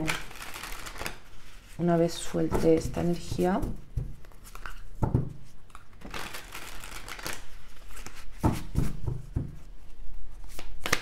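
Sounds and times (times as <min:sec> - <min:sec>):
cards shuffling: 0:00.0 - 0:09.0, 0:10.4 - 0:11.0.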